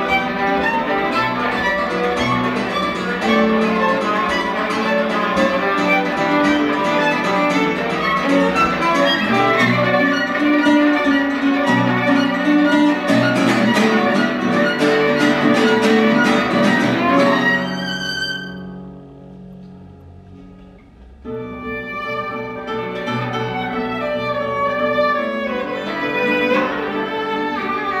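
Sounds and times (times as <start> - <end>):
bowed violin melody: 0.0 - 19.0, 20.8 - 28.0
rapid guitar strumming: 0.0 - 28.0.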